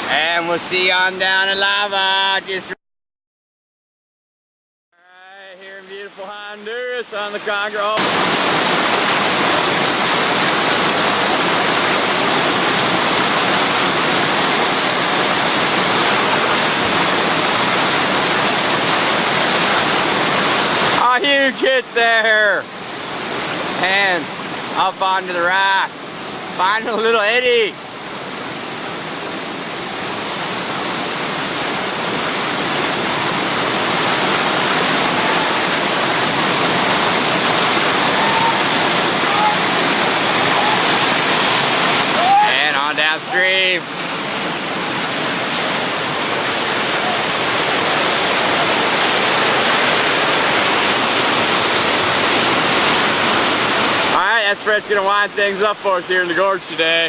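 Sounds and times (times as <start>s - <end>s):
whitewater rushing: 0.0s - 2.8s, 5.0s - 57.0s.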